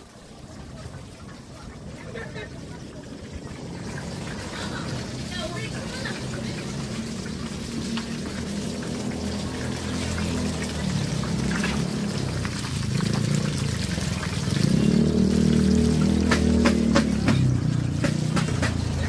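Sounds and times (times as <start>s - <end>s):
deep-frying in hot oil: 0.0s - 19.0s.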